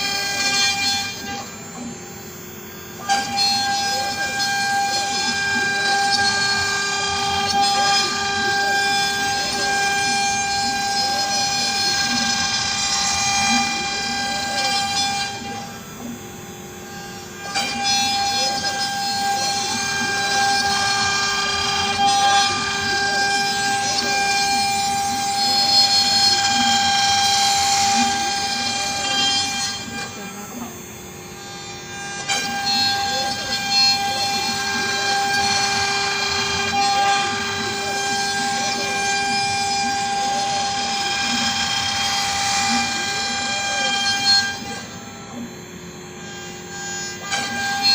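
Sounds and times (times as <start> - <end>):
router spindle whine: 0.0 - 47.9.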